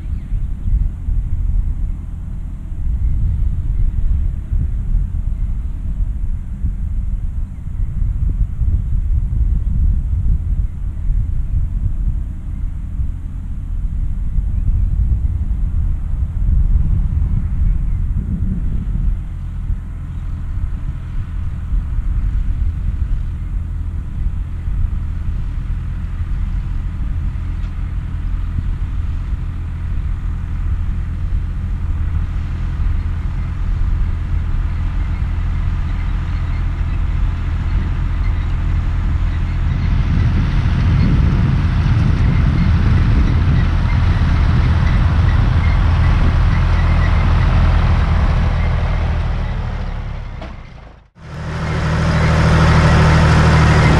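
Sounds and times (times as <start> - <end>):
tractor diesel engine under load: 0.0 - 7.6, 11.6 - 53.9.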